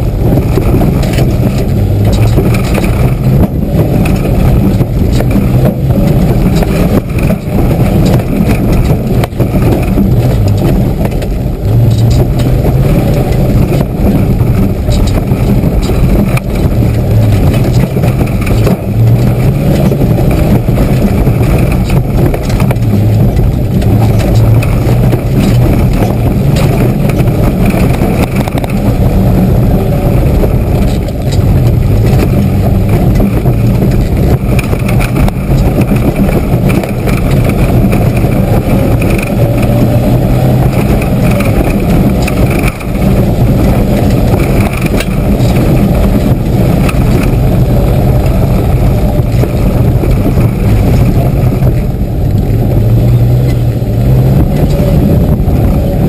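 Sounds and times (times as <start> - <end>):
car engine working hard: 0.0 - 56.0
knocks and rattles: 0.0 - 56.0.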